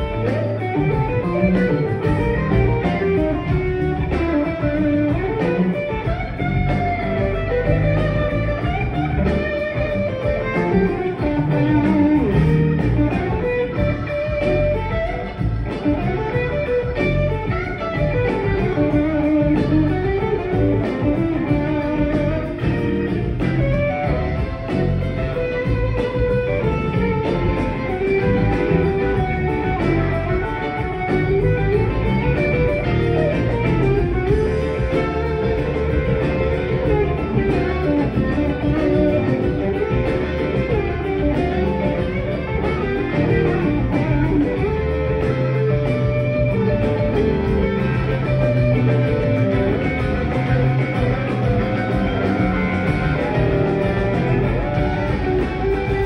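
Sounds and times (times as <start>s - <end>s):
electric guitars: 0.0s - 56.0s
live rock band playing: 0.0s - 56.0s.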